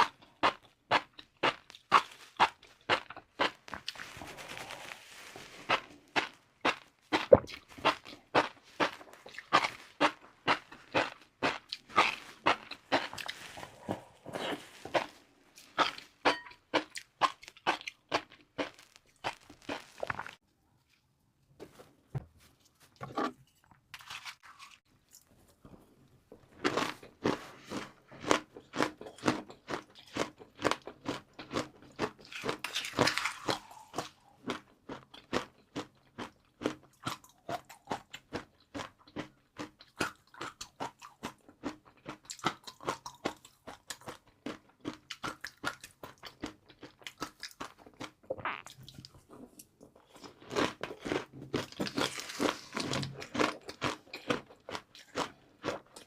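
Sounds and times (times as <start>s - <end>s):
crunching and chewing crispy noodles: 0.0s - 20.4s, 24.0s - 56.0s.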